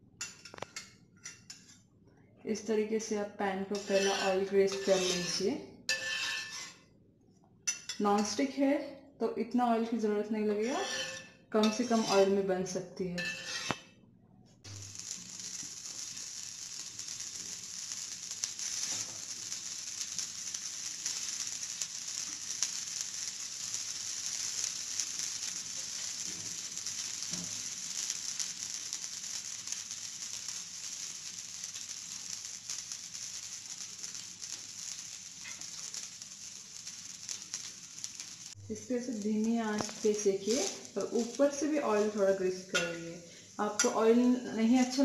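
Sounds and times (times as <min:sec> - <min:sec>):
patties sizzling in oil: 0:03.0 - 0:06.8, 0:10.4 - 0:12.4, 0:13.3 - 0:13.8, 0:14.7 - 0:45.0.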